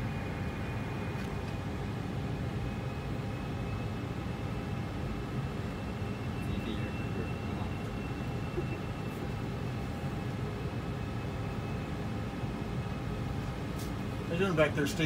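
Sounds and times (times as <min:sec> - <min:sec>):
faint high whine: 0:00.0 - 0:15.0
simulated engine and airflow rumble: 0:00.0 - 0:15.0.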